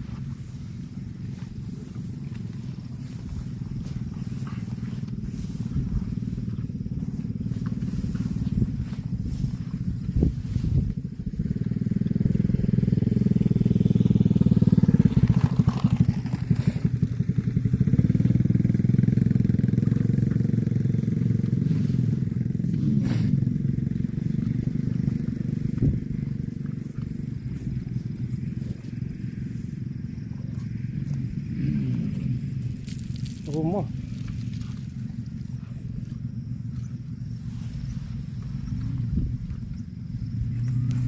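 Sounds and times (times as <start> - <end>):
engine running with pulsing beat: 0.0 - 41.0.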